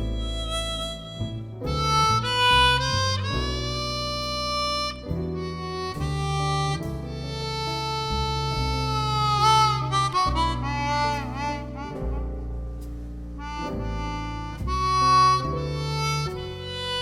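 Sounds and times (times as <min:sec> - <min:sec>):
bass and chord accompaniment: 0:00.0 - 0:17.0
chromatic harmonica melody: 0:00.0 - 0:17.0.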